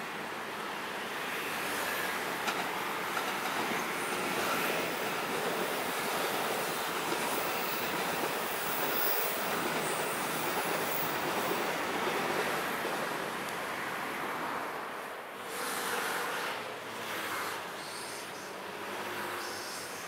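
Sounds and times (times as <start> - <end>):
train wheels on track: 0.0 - 20.0.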